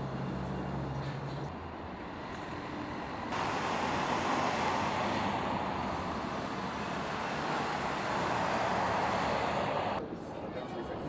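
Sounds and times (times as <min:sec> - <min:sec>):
road traffic hiss: 0:00.0 - 0:10.0.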